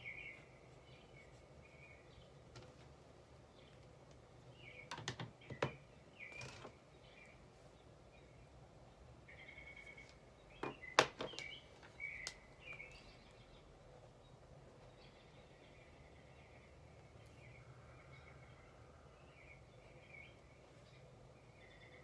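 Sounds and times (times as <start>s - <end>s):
birds chirping: 0.0s - 22.0s
faint steady hiss: 0.0s - 22.0s.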